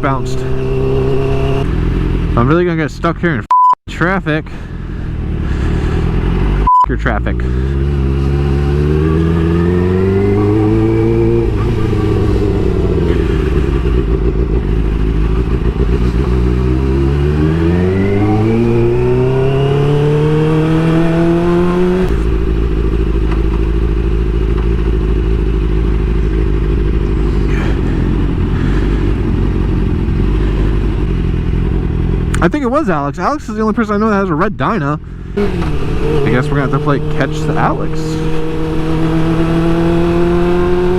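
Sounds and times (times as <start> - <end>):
motorcycle engine accelerating: 0.0 - 2.7, 4.8 - 34.3, 35.0 - 40.9.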